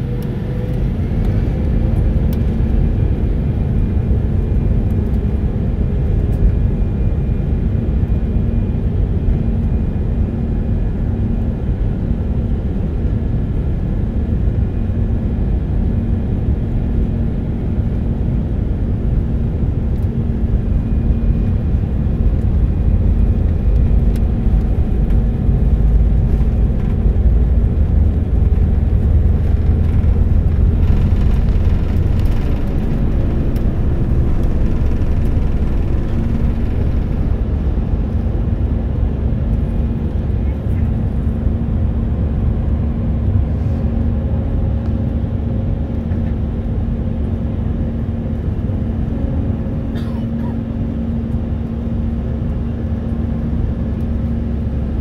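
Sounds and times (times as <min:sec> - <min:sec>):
jet engines at takeoff thrust: 0:00.0 - 0:55.0
low runway rumble: 0:00.0 - 0:55.0.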